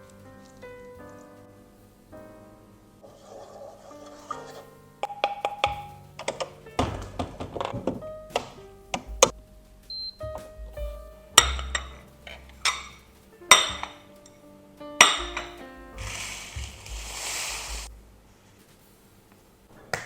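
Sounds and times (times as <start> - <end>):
soft background music: 0.0 - 18.8
steady rushing hiss: 0.0 - 20.0.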